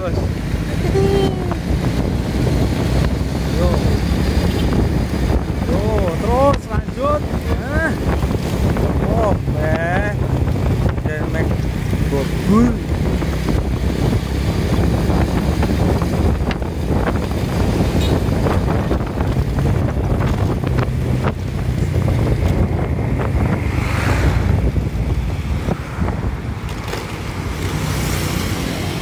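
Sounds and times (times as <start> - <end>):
motorcycle engine humming: 0.0 - 29.0
tyre noise on road: 0.0 - 29.0
wind buffeting microphone: 0.0 - 29.0.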